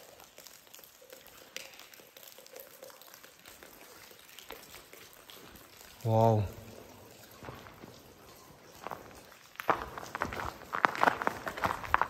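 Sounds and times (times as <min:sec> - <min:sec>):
soft steady patter: 0:00.0 - 0:12.0
water dripping into pool: 0:00.0 - 0:12.0.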